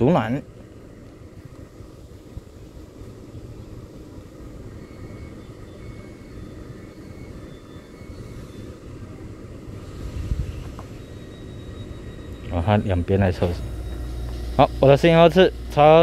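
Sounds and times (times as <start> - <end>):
faint high whine: 0.0 - 16.0
train low rumble: 0.0 - 16.0.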